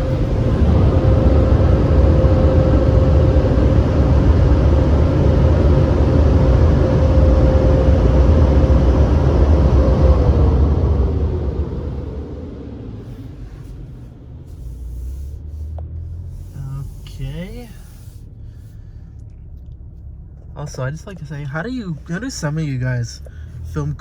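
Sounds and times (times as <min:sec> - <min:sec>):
car wash dryer blowers roaring: 0:00.0 - 0:24.0.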